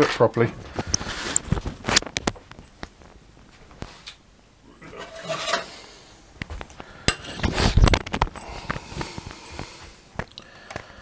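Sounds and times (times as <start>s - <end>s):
rustling and clattering: 0.4s - 4.1s, 4.9s - 10.8s.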